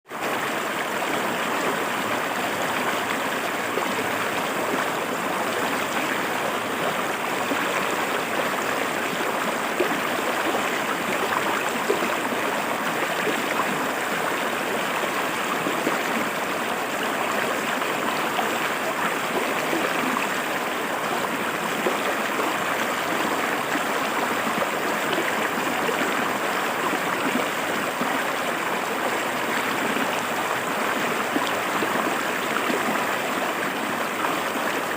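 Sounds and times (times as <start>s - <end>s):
river water rushing over rocks: 0.1s - 34.9s.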